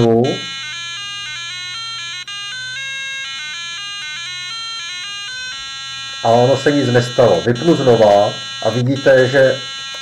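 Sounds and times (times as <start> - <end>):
buzzy electronic alarm melody: 0.0 - 10.0.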